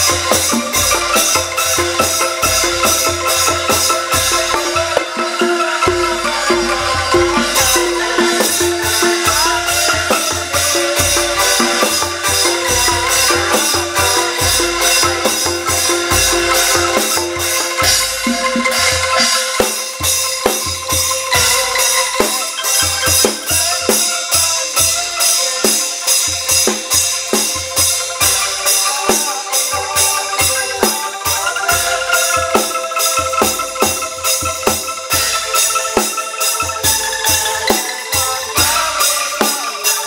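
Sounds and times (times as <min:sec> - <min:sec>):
bamboo angklung playing: 0:00.0 - 0:40.0
drums and cymbals beat: 0:00.0 - 0:40.0.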